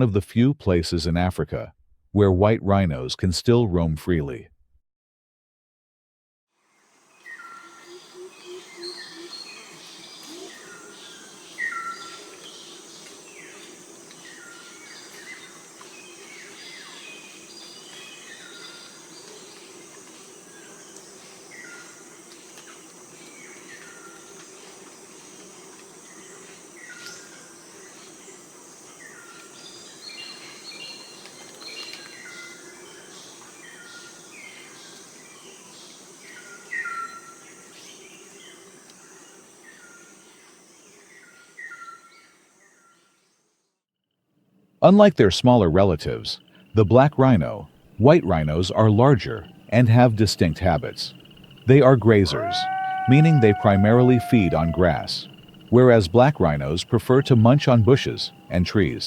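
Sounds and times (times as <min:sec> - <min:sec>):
birds chirping: 0:07.2 - 0:43.0, 0:45.4 - 0:59.0.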